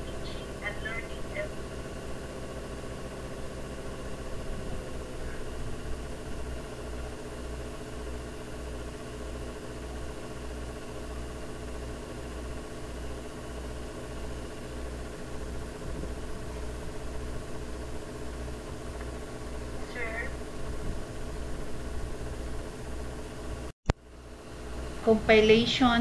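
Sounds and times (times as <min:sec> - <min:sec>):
machine hum with low throb: 0:00.0 - 0:26.0.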